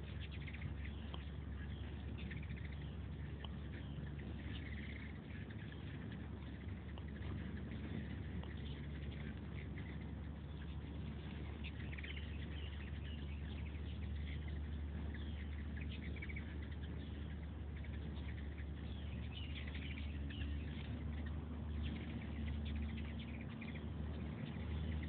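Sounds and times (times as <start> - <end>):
hummingbirds chittering: 0.0 - 25.0
low steady hum: 0.0 - 25.0.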